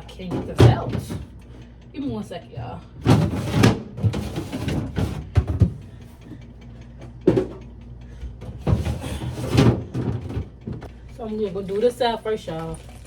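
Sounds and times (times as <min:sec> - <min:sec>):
refrigerator shelving rattling: 0:00.0 - 0:13.0.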